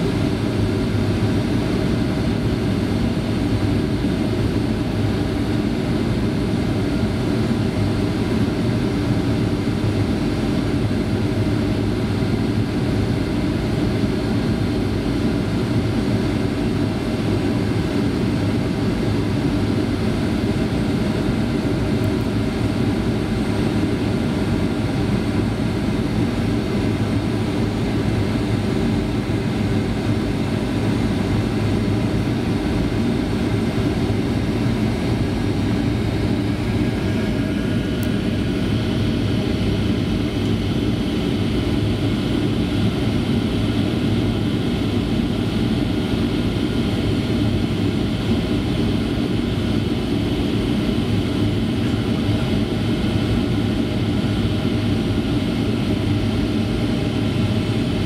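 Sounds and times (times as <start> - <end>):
jet engine drone and rushing air: 0.0 - 58.0.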